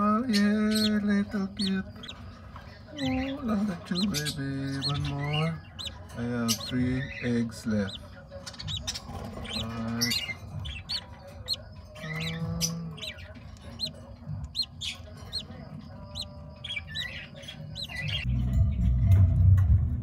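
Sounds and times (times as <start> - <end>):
lovebirds chirping: 0.0 - 18.3.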